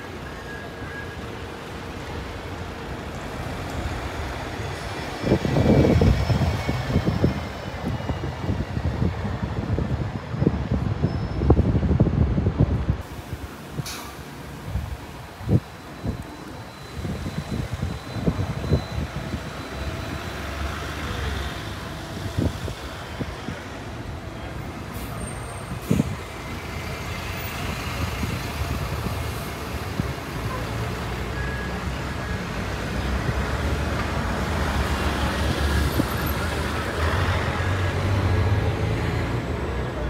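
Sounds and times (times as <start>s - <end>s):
bus engine droning: 0.0s - 40.0s
road traffic: 0.0s - 40.0s.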